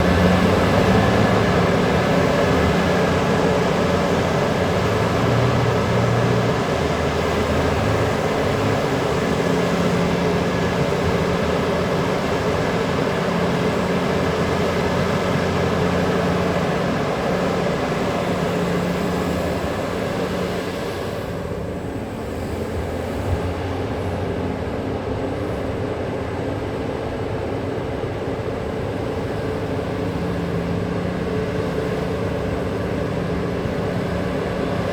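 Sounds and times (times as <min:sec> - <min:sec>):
diesel machinery engine drone: 0:00.0 - 0:34.9.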